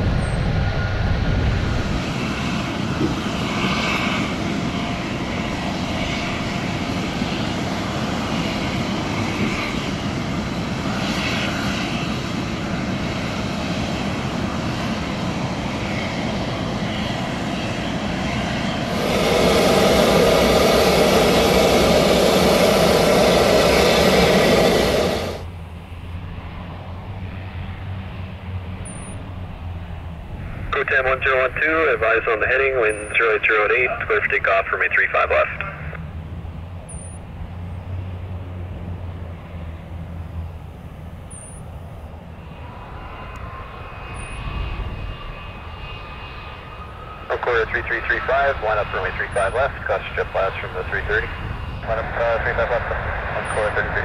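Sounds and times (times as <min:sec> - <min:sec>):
jet engine drone: 0:00.0 - 0:54.0.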